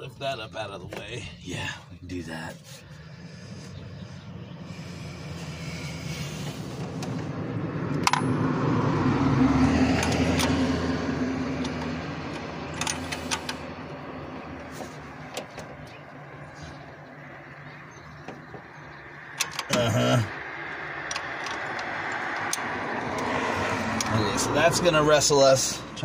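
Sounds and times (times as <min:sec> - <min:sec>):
passing motor vehicle rumble: 0:00.0 - 0:26.0.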